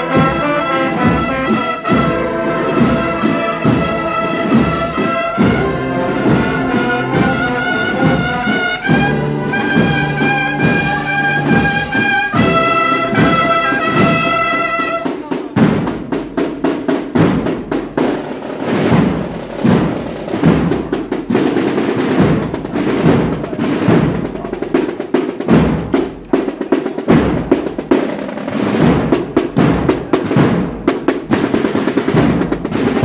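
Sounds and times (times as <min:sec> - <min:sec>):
marching field drums: 0:00.0 - 0:33.0.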